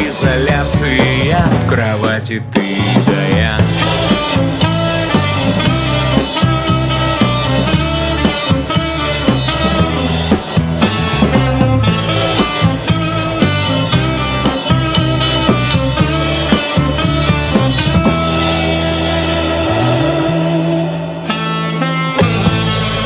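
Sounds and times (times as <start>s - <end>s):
drum kit beat: 0.0s - 23.0s
rock band instrumental: 0.0s - 23.0s.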